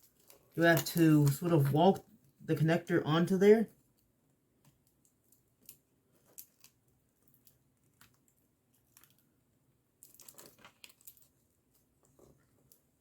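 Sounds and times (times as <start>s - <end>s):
crackly rustling: 0.0s - 2.6s, 3.5s - 13.0s.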